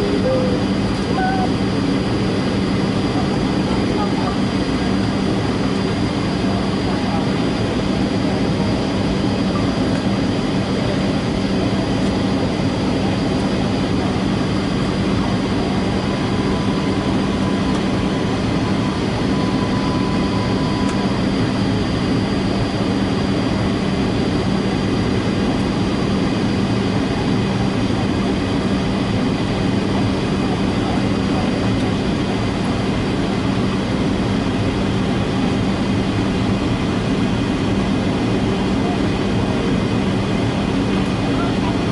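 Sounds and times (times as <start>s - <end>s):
airplane cabin engine rush: 0.0s - 41.9s
constant low hum: 0.0s - 41.9s.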